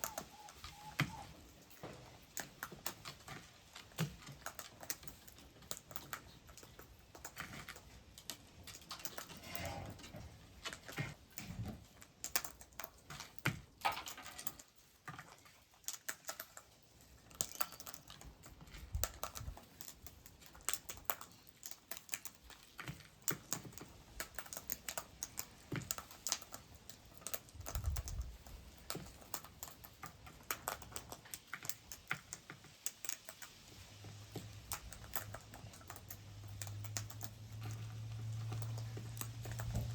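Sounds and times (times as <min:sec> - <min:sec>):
birds pecking clicks and taps: 0:00.0 - 0:39.9.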